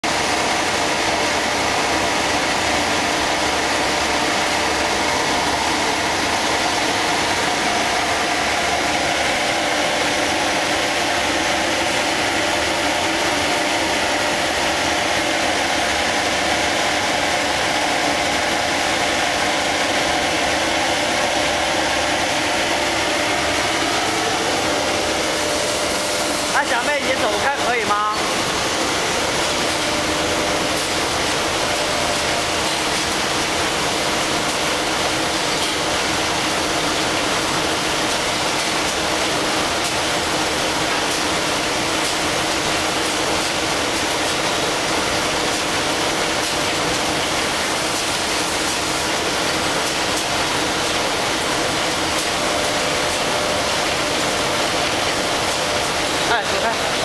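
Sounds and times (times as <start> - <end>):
machinery running: 0.0 - 57.0.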